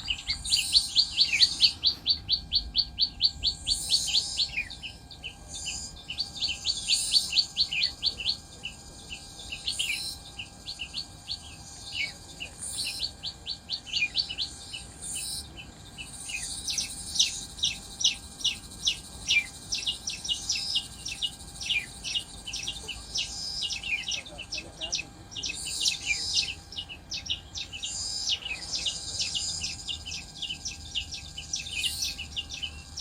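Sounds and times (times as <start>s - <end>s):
small birds trilling: 0.0s - 33.0s.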